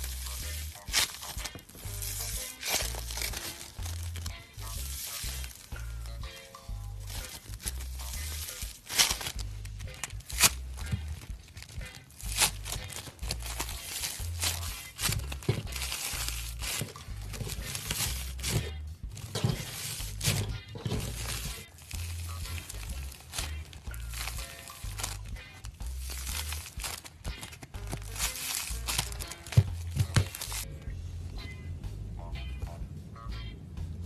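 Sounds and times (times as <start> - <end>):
crunchy slime crackling: 0.0 - 30.7
background music with bass line: 0.0 - 34.0.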